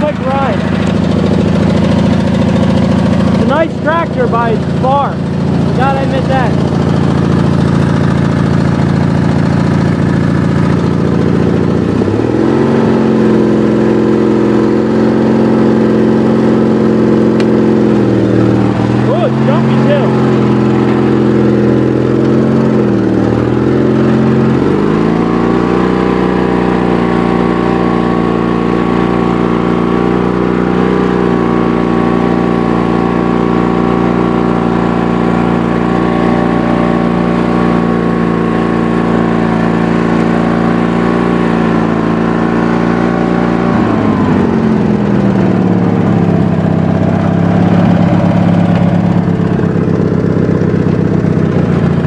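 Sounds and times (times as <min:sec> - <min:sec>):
garden tractor engine running: 0:00.0 - 0:52.0.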